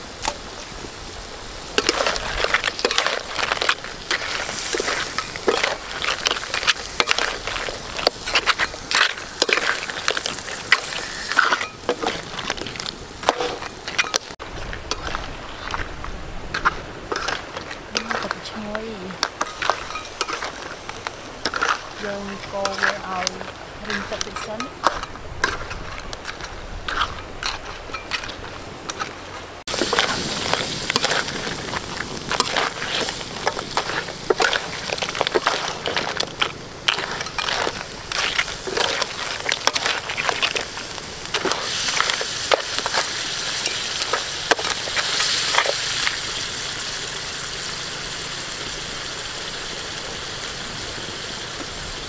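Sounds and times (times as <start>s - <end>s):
crabs sizzling and crackling in a wok: 0.0s - 52.0s.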